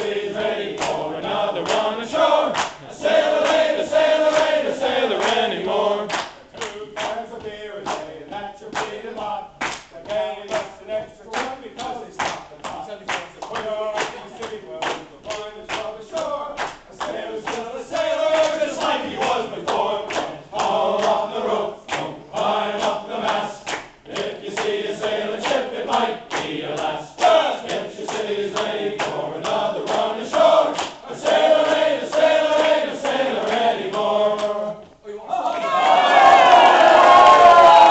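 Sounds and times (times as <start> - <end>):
group singing sailor song: 0.0 - 37.9
hand clapping in time: 0.7 - 21.2, 21.9 - 24.8, 25.4 - 34.6.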